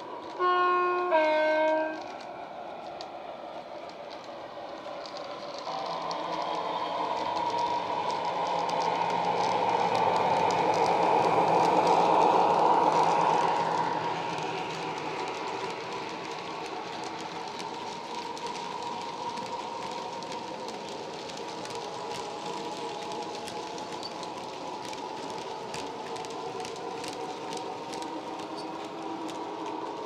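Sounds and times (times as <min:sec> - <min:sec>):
diesel locomotive engine sound: 0:00.0 - 0:30.0.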